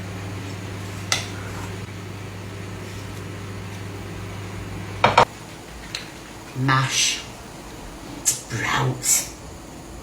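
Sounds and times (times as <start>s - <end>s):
kitchen appliance humming: 0.0s - 10.0s.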